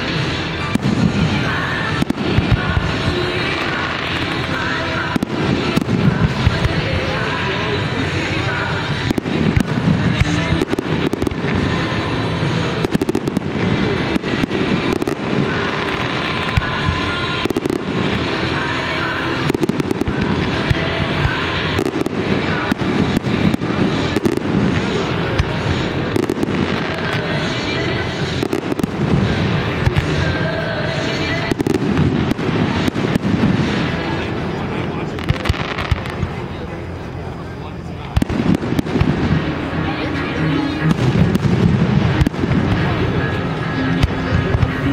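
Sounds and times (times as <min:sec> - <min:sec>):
fireworks sharp bangs: 0:00.0 - 0:37.3, 0:38.0 - 0:44.9
fireworks crackling bursts: 0:00.0 - 0:44.9.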